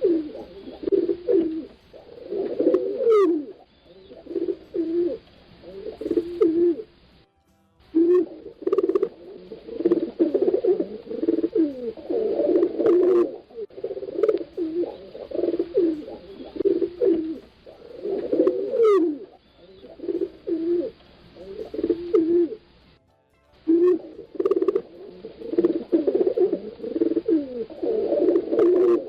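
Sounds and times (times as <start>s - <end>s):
pigeons cooing: 0.0s - 7.2s, 8.0s - 22.8s, 23.7s - 29.0s.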